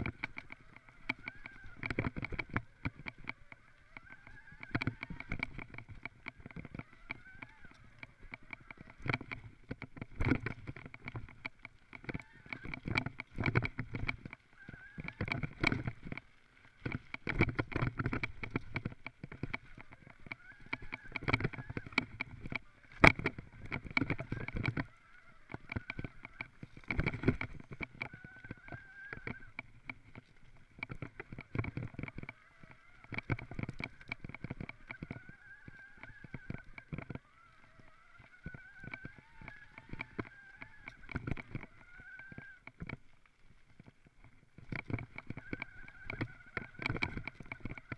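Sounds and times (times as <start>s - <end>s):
faint wavering whine: 0.0s - 47.9s
mountain bike rattling over trail: 0.0s - 47.9s.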